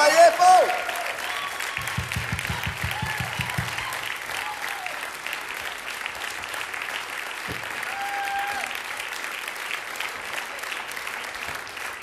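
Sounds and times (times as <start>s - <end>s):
audience clapping: 0.0s - 12.0s.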